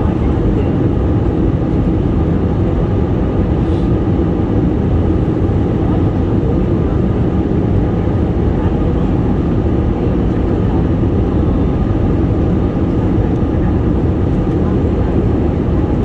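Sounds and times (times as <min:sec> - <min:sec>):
airplane low rumble: 0:00.0 - 0:16.0.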